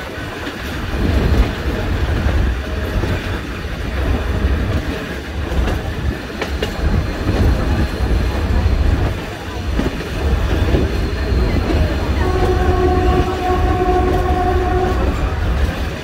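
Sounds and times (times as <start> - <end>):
train coaches rumbling on rails: 0.0 - 16.0.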